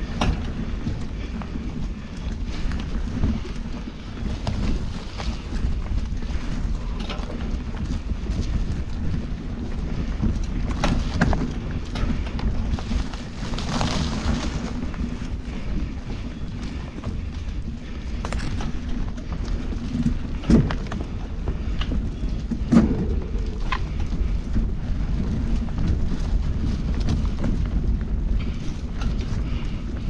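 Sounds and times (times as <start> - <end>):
bike knocking and rattling over bumps: 0.0 - 30.0
bike tyres rumbling on dirt trail: 0.0 - 30.0.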